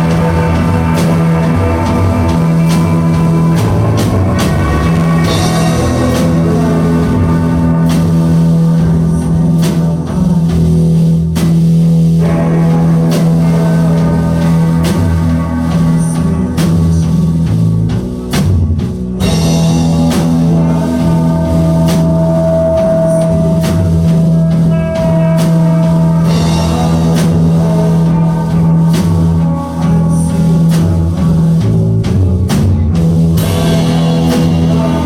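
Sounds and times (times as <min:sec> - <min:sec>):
drum kit hits: 0:00.0 - 0:35.0
layered guitars: 0:00.0 - 0:35.0
low bass drone: 0:00.0 - 0:35.0
rock band playing live: 0:00.0 - 0:35.0.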